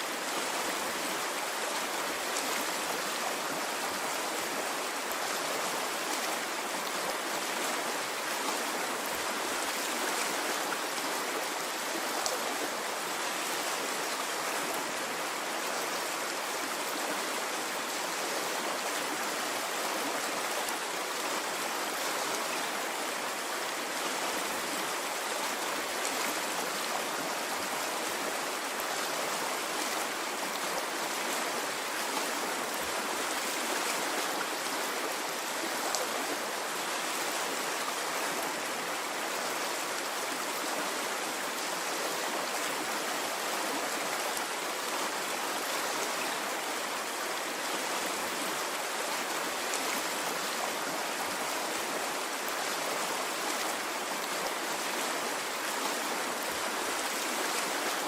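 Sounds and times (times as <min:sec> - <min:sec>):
stream flowing water: 0:00.0 - 0:58.0.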